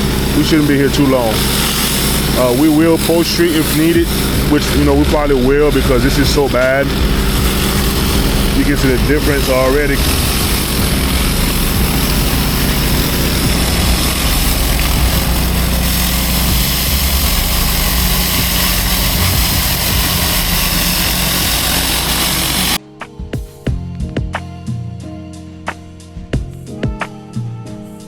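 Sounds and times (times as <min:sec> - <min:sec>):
pressure washer engine running: 0:00.0 - 0:22.8
water spraying on concrete: 0:00.0 - 0:22.8.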